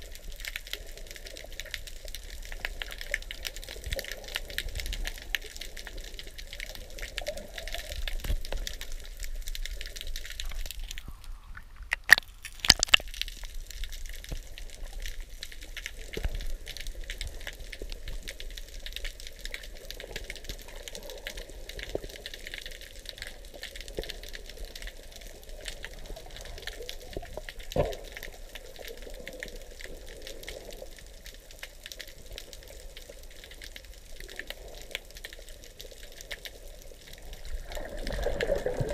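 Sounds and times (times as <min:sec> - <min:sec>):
low rumble of moving water: 0:00.0 - 0:38.9.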